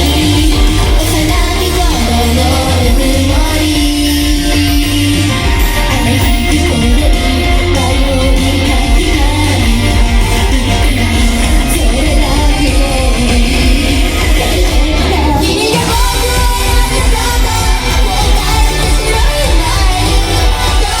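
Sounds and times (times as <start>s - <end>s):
group singing live: 0.0s - 21.0s
guitar-driven pop-rock backing track: 0.0s - 21.0s.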